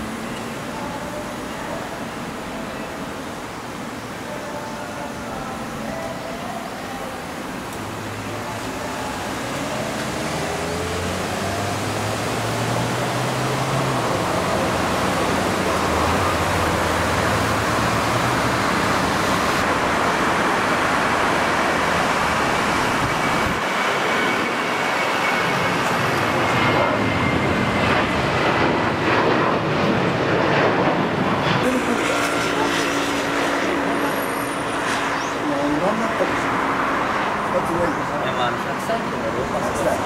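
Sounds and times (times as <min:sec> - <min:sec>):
high fan whine: 0:00.0 - 0:40.0
jet noise at takeoff: 0:00.0 - 0:40.0.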